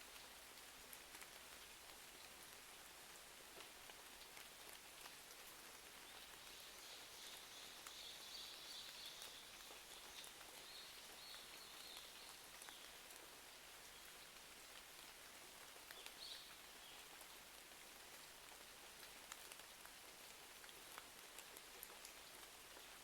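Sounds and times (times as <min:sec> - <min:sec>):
steady rain: 0:00.0 - 0:23.0
fireplace crackles and ticks: 0:00.1 - 0:23.0.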